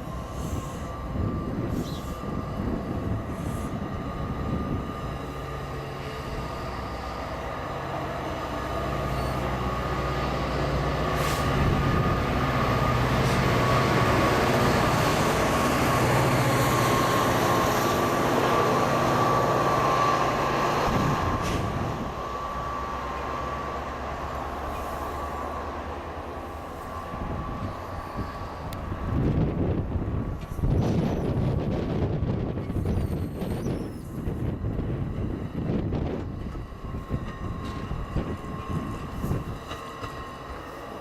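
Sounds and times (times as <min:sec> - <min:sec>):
diesel engine hum: 0:00.0 - 0:41.0
train wheels on rail: 0:00.0 - 0:41.0.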